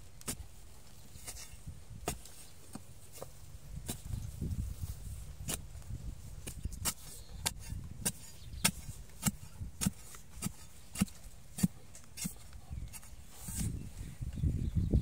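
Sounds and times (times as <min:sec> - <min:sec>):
metal bar stabbing into soil: 0:00.1 - 0:04.3, 0:05.4 - 0:13.8.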